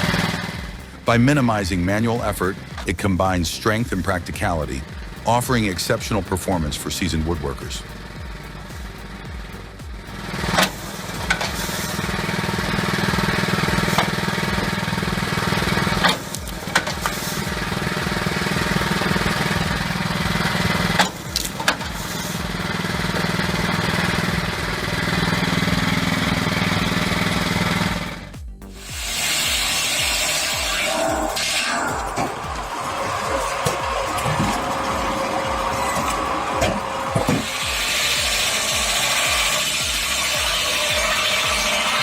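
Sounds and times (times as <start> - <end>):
log splitter engine droning: 0.0 - 42.0.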